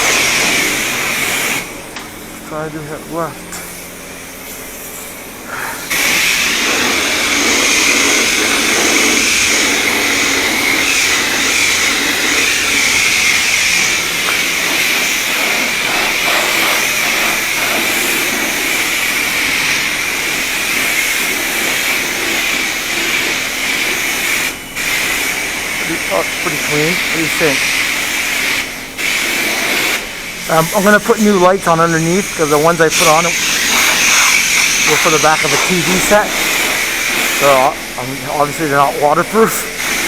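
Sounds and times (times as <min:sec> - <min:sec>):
pressure washer spraying water: 0:00.0 - 0:40.0.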